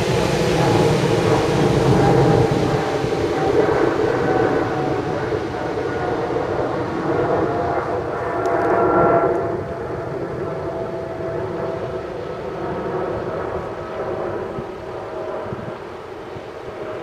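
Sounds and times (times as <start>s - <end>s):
outboard motor drone: 0.0s - 17.0s.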